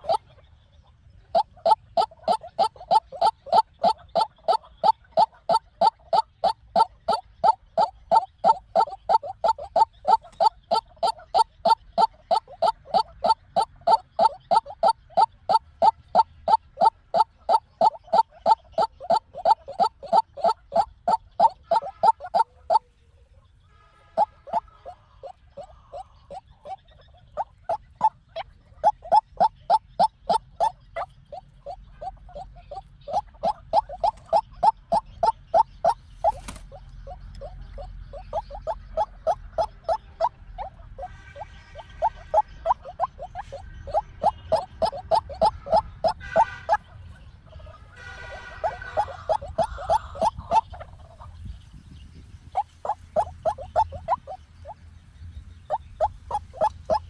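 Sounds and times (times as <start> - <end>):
waterhen calling: 0.0 - 0.4, 1.2 - 22.9, 23.8 - 51.4, 52.5 - 54.8, 55.6 - 57.0.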